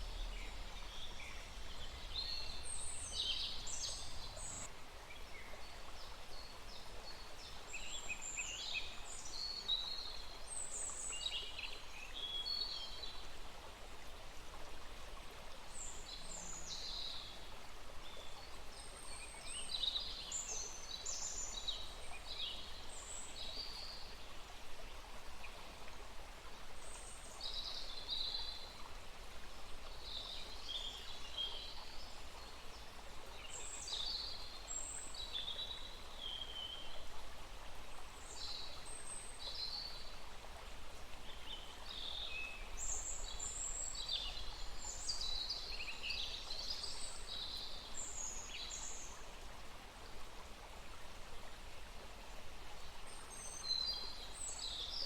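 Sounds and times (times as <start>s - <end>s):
small stream running: 0.0s - 55.0s.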